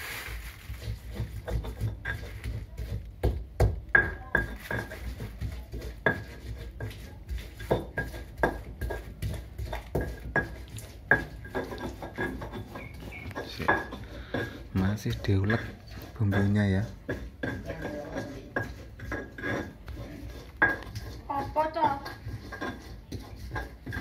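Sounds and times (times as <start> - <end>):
pestle knocking and scraping mortar: 0.0 - 24.0.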